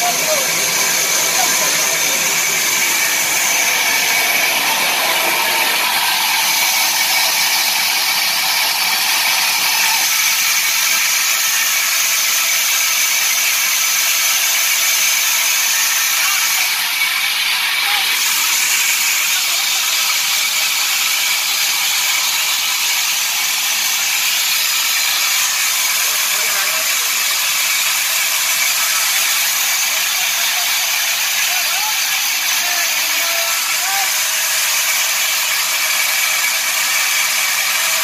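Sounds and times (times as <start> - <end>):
wood-cutting saw running: 0.0 - 38.0.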